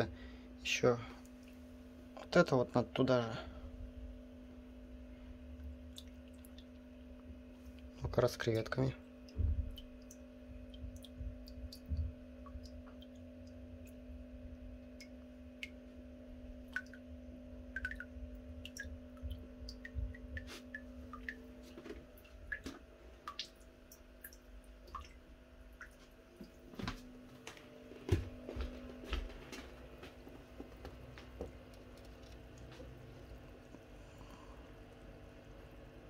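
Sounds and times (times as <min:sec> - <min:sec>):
electrical hum: 0:00.0 - 0:36.0
water dripping: 0:05.5 - 0:36.0.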